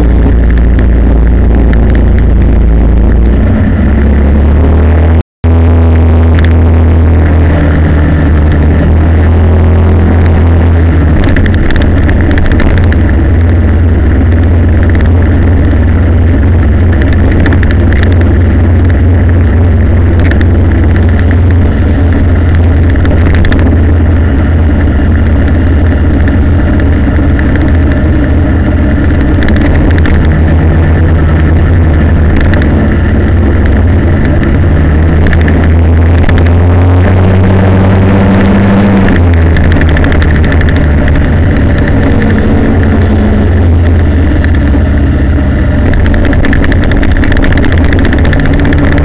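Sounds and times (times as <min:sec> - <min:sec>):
road noise: 0:00.0 - 0:49.0
vehicle engine running: 0:00.0 - 0:49.0.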